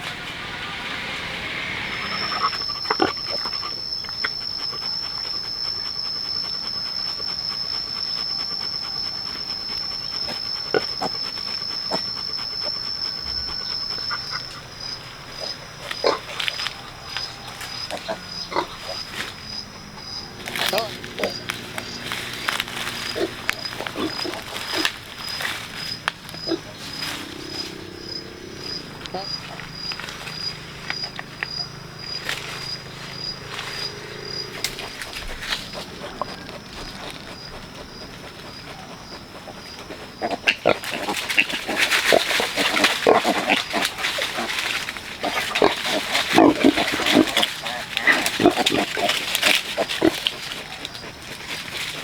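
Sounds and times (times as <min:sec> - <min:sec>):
pigs grunting: 0:00.0 - 0:52.0.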